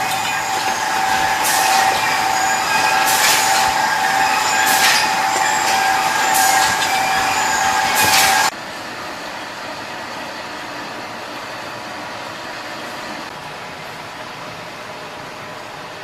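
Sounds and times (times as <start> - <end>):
machine high whine: 0.0 - 13.3
steady mechanical noise: 0.0 - 16.0.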